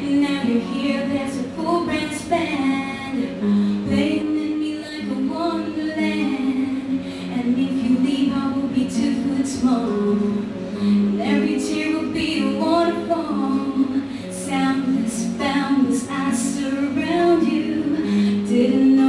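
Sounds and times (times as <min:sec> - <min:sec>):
acoustic guitar: 0:00.0 - 0:19.0
woman singing pop song: 0:00.0 - 0:19.0.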